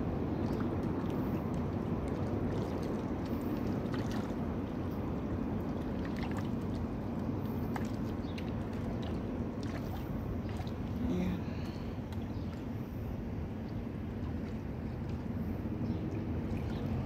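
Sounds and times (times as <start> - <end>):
sea water rushing: 0.0 - 17.0.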